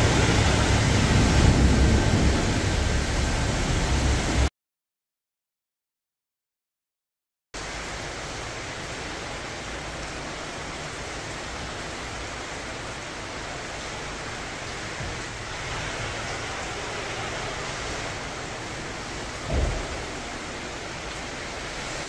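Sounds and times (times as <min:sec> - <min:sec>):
water jets spraying: 0:00.0 - 0:04.5, 0:08.0 - 0:22.0.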